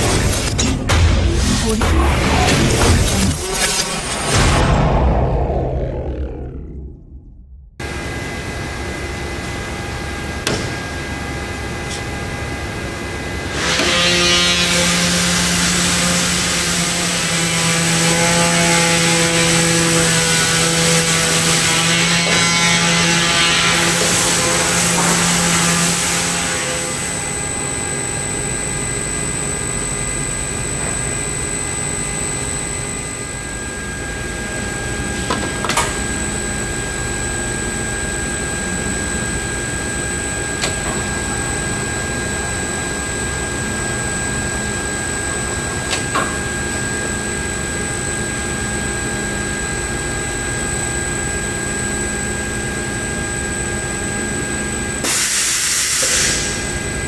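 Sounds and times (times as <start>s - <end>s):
bending machine hum and whine: 0.0s - 57.0s.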